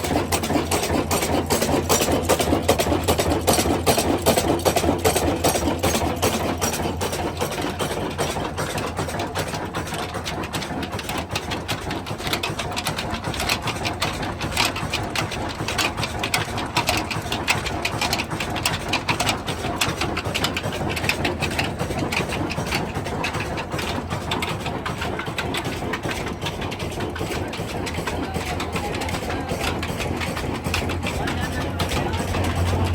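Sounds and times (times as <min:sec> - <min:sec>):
diesel engine clattering: 0:00.0 - 0:32.9.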